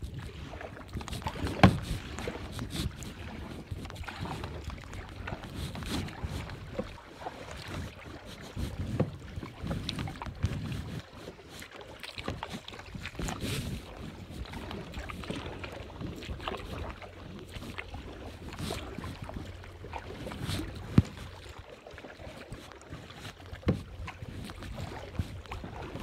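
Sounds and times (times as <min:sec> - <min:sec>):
wind rumbling on microphone: 0:00.0 - 0:11.5, 0:12.2 - 0:21.7, 0:22.3 - 0:26.0
paddle strokes splashing water: 0:00.0 - 0:26.0.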